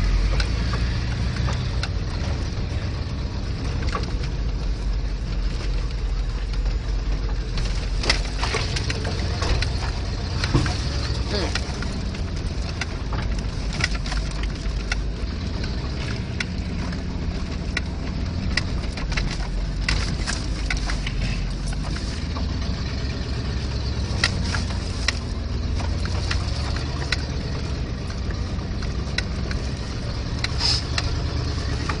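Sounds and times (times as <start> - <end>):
truck engine running at low speed: 0.0 - 32.0
vehicle knocks and rattles: 0.0 - 32.0.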